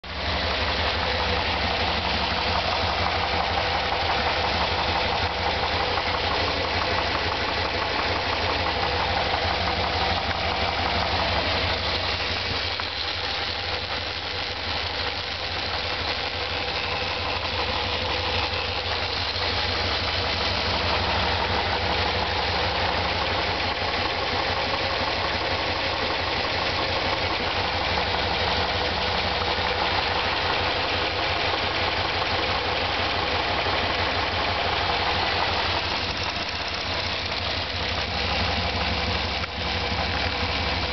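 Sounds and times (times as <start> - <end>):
engine running with knock: 0.0 - 40.9.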